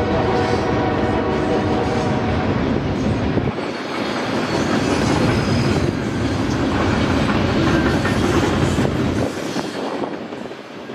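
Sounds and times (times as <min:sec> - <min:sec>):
freight train wheels clattering: 0:00.0 - 0:10.9.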